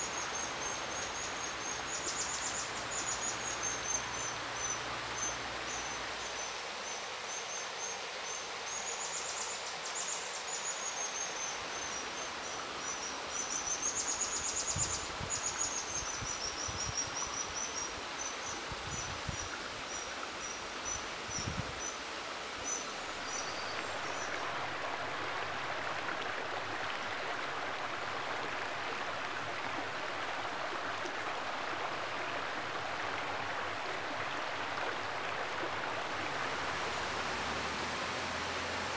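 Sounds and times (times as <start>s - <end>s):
fast stream rushing: 0.0s - 38.9s.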